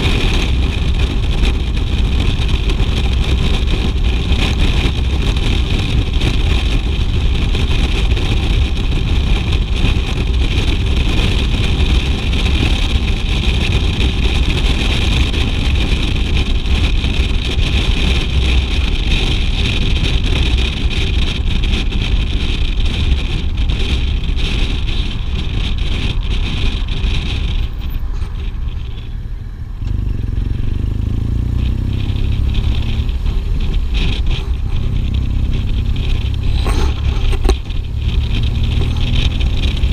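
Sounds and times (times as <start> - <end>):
motorcycle engine rumble: 0.0 - 39.9
wind rushing noise: 0.0 - 39.9.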